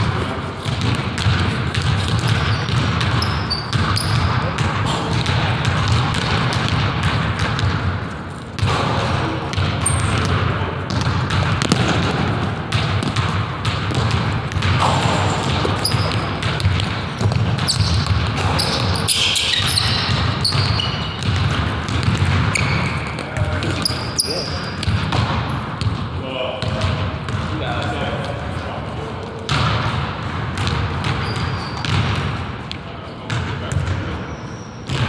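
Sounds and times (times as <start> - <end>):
basketball bouncing on wooden floor: 0.0 - 8.0, 8.6 - 28.4, 29.5 - 34.1
sneakers squeaking: 0.0 - 35.0.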